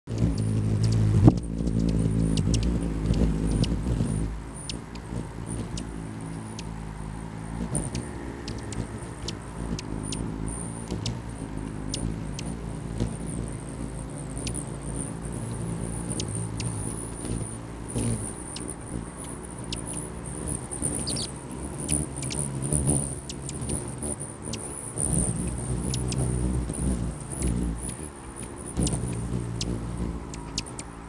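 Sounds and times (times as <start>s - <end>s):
hummingbird chip calls: 0.1s - 31.0s
hummingbird wings humming: 0.1s - 31.0s.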